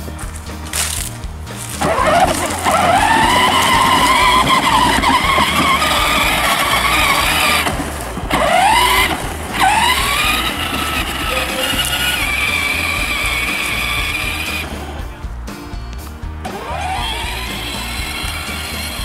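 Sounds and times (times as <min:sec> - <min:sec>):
toy simulated engine revving: 0:01.8 - 0:15.0, 0:16.4 - 0:19.0.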